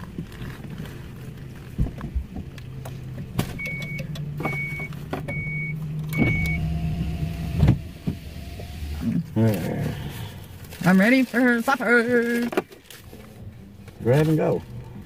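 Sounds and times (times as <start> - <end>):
van engine idling: 0.0 - 15.0.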